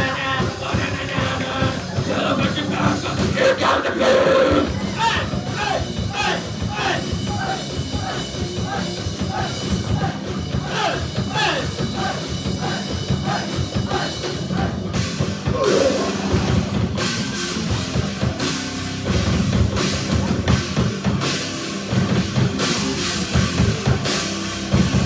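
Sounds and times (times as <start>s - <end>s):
rock band playing heavy rock: 0.0s - 25.0s.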